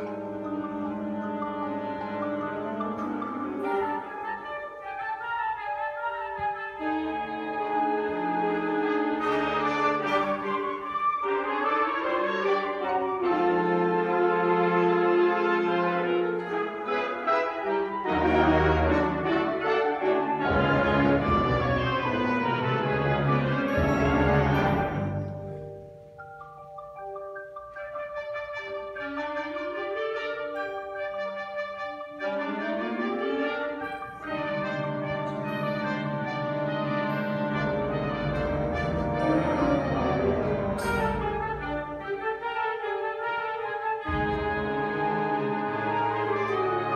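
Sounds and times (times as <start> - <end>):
concert band brass chords: 0.0 - 25.9, 28.0 - 46.9.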